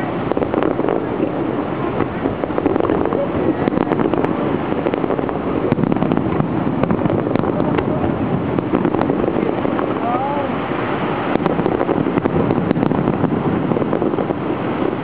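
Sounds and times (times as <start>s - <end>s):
fireworks popping and crackling: 0.0s - 10.5s, 11.1s - 15.0s.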